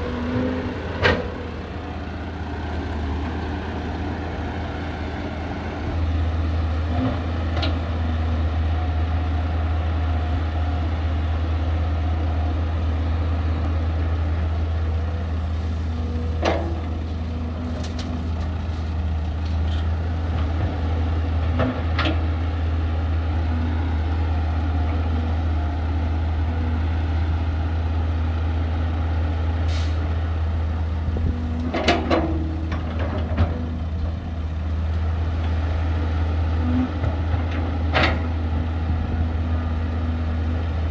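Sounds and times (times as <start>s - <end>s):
heavy diesel machinery humming: 0.0s - 40.9s.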